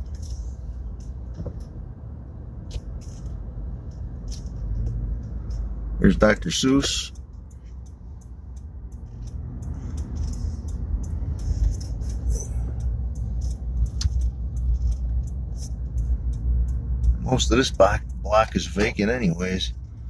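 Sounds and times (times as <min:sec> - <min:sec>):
car cabin road rumble: 0:00.0 - 0:20.0
light ticks: 0:02.7 - 0:18.9.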